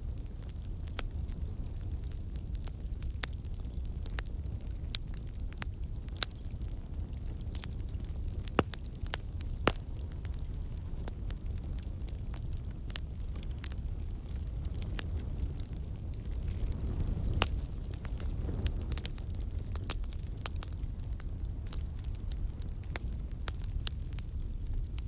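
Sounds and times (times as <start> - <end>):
bonfire burning with low rumble: 0.0 - 25.0
wood crackling and popping: 0.0 - 25.0.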